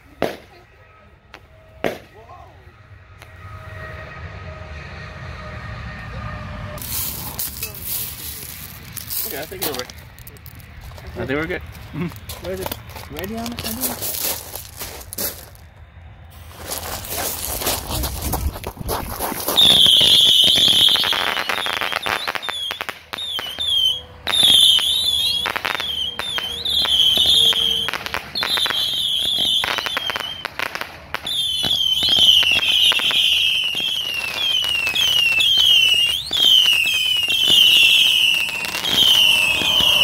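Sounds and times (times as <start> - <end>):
whistling fireworks: 0.0 - 10.3, 14.3 - 40.0
fireworks popping and crackling: 0.1 - 0.6, 1.3 - 2.2, 6.8 - 15.7, 16.4 - 40.0.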